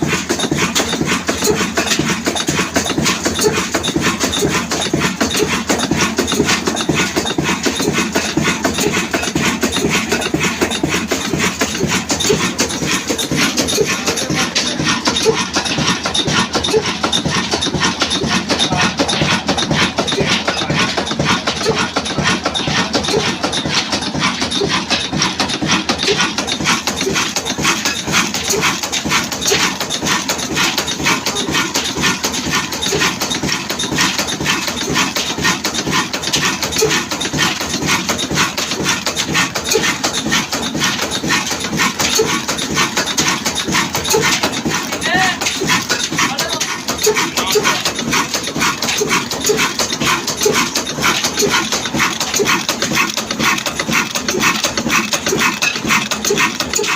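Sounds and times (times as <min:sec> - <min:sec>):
slow diesel engine beating: 0:00.0 - 0:56.9.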